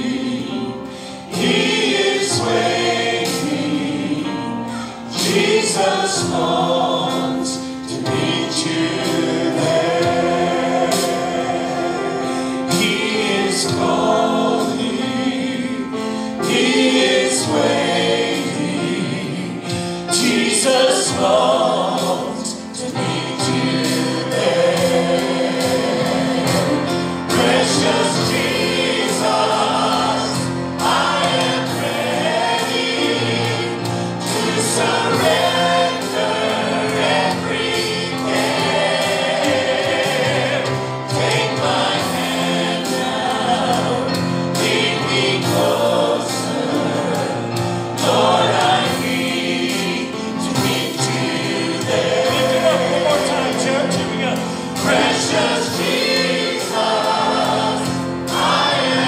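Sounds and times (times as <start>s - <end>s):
church choir singing gospel: 0.0s - 59.0s
instrumental accompaniment: 0.0s - 59.0s
soloists singing into microphones: 0.0s - 59.0s.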